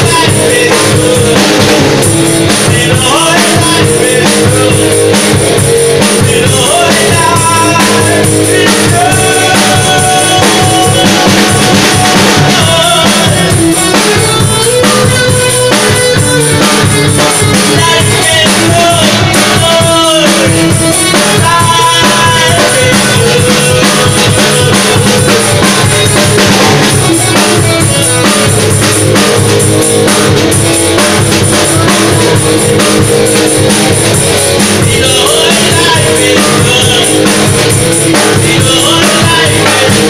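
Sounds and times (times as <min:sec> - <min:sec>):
male vocalist singing: 0:00.0 - 0:28.7, 0:31.2 - 0:40.0
drum kit: 0:00.0 - 0:40.0
electric guitar: 0:00.0 - 0:40.0.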